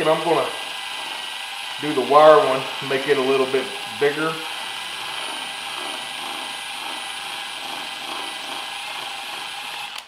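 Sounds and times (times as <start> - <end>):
cordless drill drilling plastic: 0.0 - 10.0.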